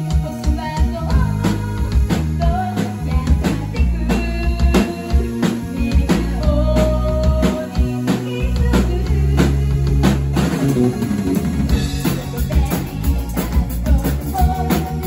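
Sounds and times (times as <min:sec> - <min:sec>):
deep bass notes: 0:00.0 - 0:15.0
drum kit beating: 0:00.0 - 0:15.0
keyboard: 0:00.0 - 0:15.0.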